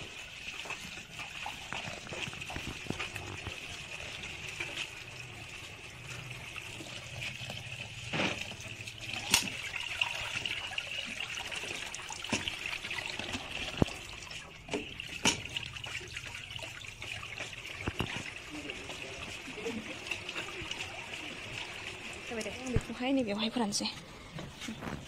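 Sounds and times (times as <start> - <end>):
water dripping into metal bucket: 0.0 - 23.8
water trickling onto rice: 0.0 - 23.8.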